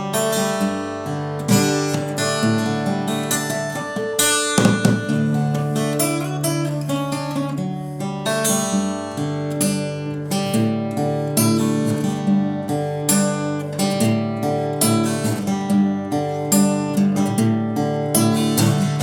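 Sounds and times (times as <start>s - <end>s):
acoustic guitar strummed and picked: 0.0s - 19.0s.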